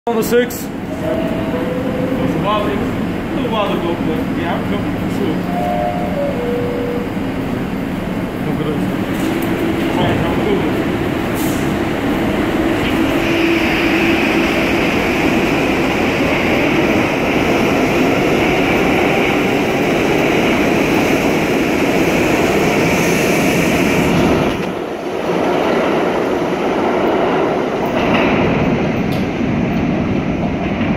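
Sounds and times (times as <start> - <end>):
subway train pulling out: 0.1 - 30.9.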